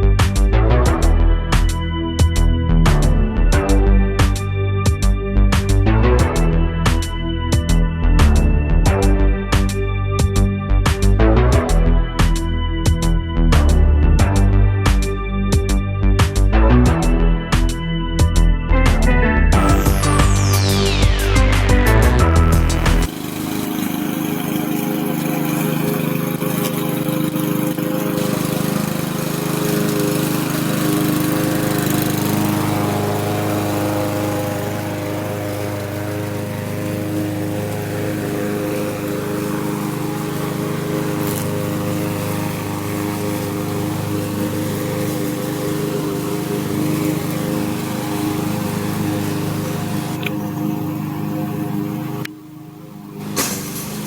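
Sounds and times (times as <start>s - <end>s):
lawn mower cutting grass: 0.0s - 54.0s.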